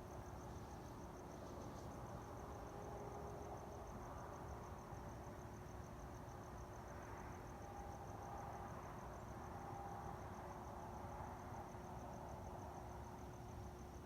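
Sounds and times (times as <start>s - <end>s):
cricket chirping: 0.0s - 14.0s
low night background hum: 0.0s - 14.0s.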